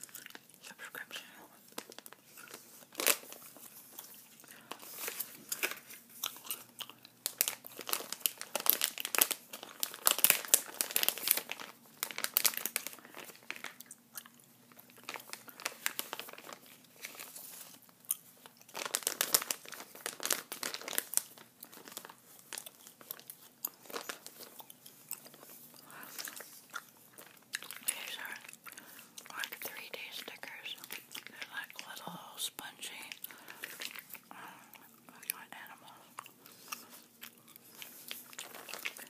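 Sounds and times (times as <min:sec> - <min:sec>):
plastic wrapping crinkling: 0:00.0 - 0:00.6, 0:01.6 - 0:39.0.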